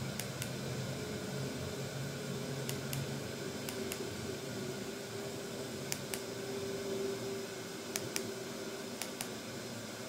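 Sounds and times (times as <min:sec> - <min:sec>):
projector cooling fan humming: 0:00.0 - 0:10.0.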